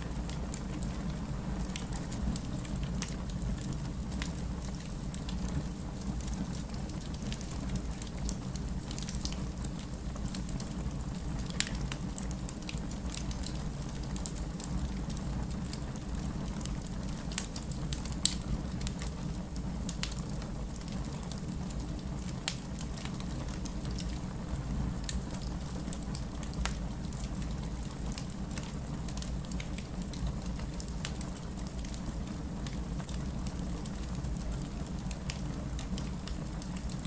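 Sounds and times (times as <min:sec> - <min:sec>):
fireplace fire crackling and popping: 0:00.0 - 0:37.0.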